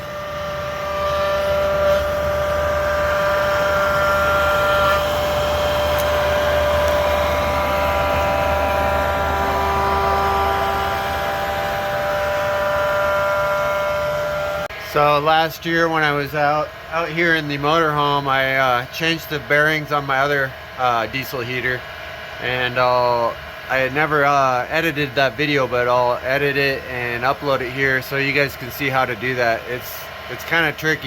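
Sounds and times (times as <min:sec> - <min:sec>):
heater whining with bad bearings: 0:00.0 - 0:31.0.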